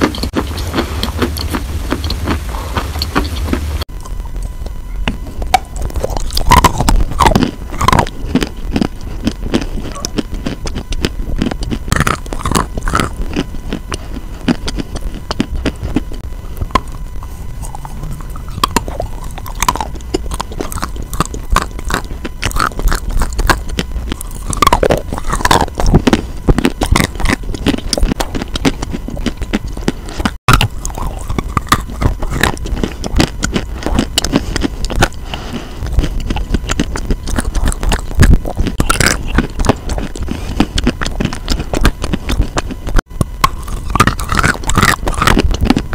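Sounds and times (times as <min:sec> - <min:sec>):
crunching and chewing chalk: 0:00.0 - 0:45.9.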